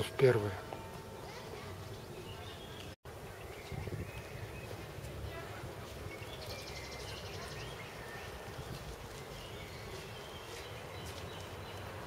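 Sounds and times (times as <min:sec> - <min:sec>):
small birds chirping: 0:01.2 - 0:12.0.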